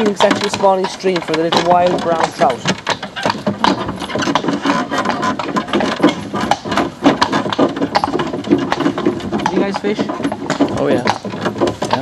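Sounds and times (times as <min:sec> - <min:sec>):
horse hooves on pavement: 0:00.0 - 0:12.0.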